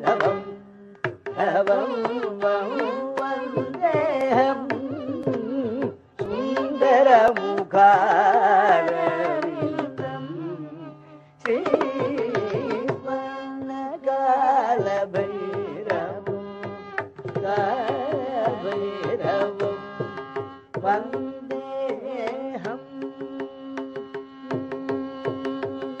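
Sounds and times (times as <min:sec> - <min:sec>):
man singing: 0:00.0 - 0:26.0.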